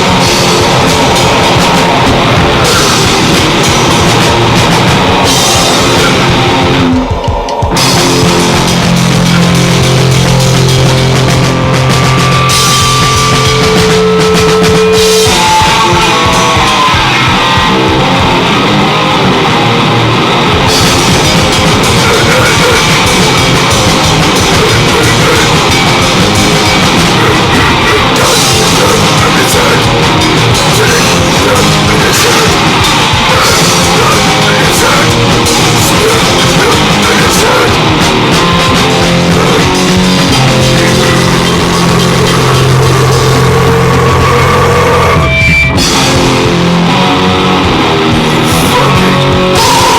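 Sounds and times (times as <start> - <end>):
distorted guitar: 0.0 - 49.9
fast drums: 0.0 - 49.9.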